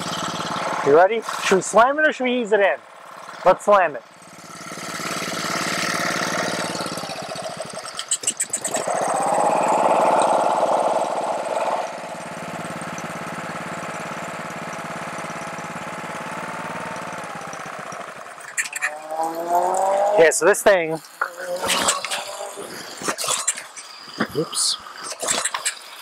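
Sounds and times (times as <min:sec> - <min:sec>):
pressure washer engine running: 0:00.0 - 0:26.0.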